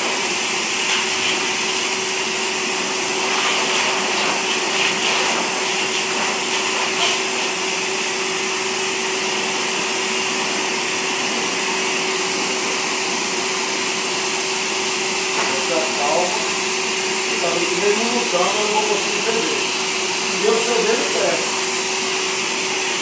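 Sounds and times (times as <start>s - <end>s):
blower dryer running: 0.0s - 23.0s.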